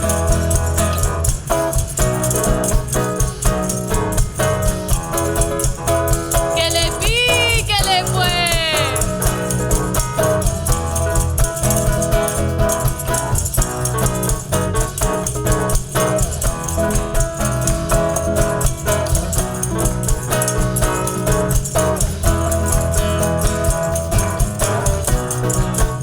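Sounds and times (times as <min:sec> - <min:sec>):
guitar: 0:00.0 - 0:26.0
percussion rhythm: 0:00.0 - 0:26.0.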